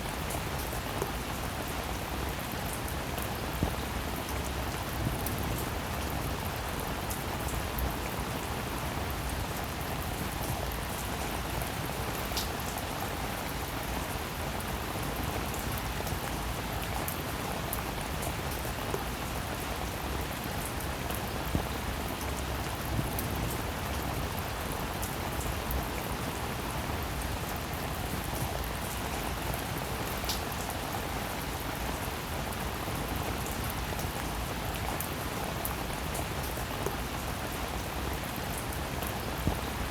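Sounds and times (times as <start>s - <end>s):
rain hissing on a surface: 0.0s - 39.9s.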